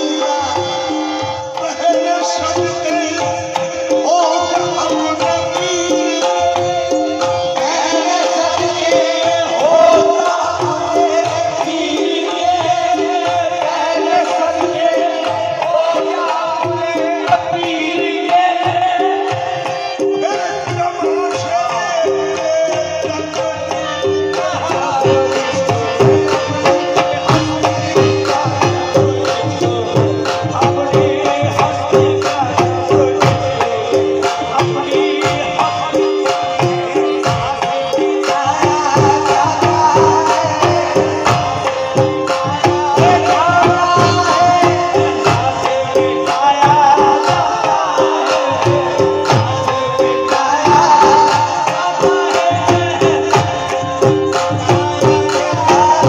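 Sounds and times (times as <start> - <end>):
harmoniums playing a melody: 0.0 - 56.0
tabla drumming: 0.0 - 56.0.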